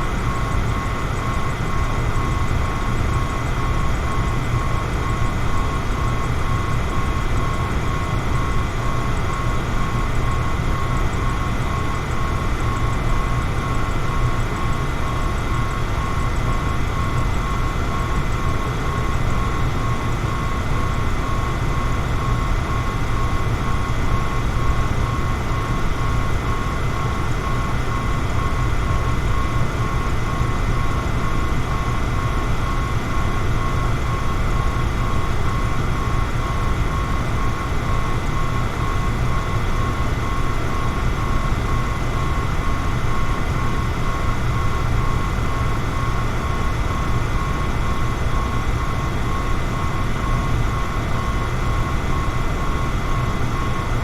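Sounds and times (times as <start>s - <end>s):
electric fan running: 0.0s - 54.0s
faint motor whine: 0.0s - 54.0s.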